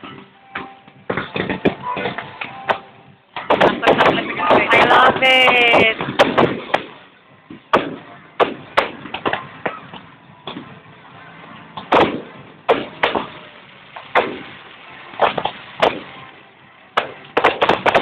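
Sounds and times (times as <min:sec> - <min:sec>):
fireworks exploding with sharp bangs: 0:00.0 - 0:18.0.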